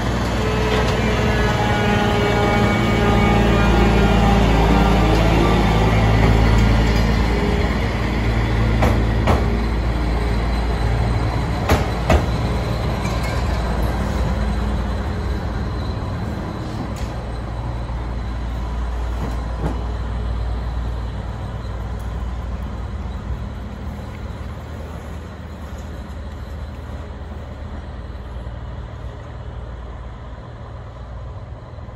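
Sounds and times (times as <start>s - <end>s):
train rumbling along rails: 0.0s - 31.9s.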